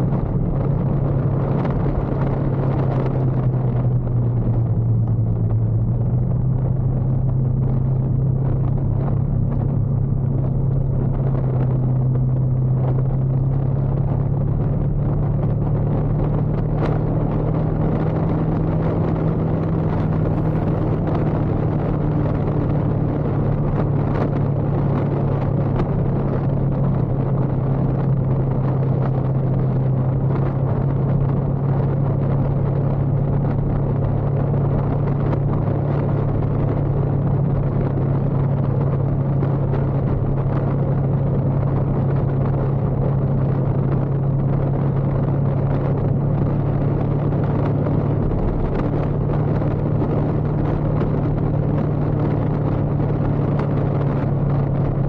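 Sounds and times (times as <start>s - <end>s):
road noise: 0.0s - 55.0s
wind noise: 0.0s - 55.0s.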